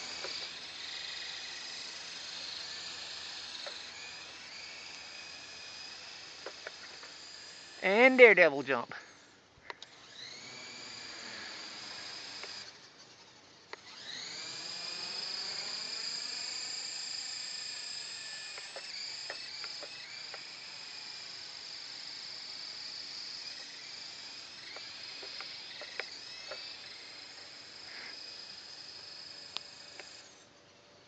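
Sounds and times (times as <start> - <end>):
rc helicopter motor whine: 0.0 - 31.0.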